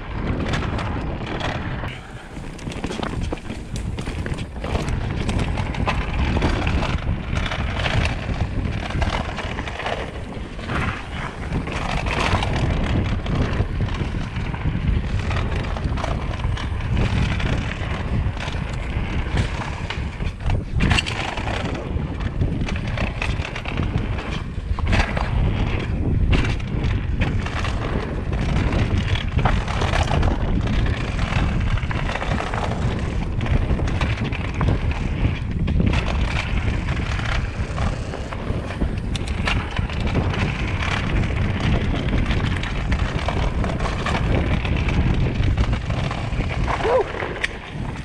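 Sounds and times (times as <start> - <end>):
bike clicking and rattling: 0.0 - 48.0
bike tyres rolling on dirt: 0.0 - 48.0
wind on microphone: 0.0 - 48.0.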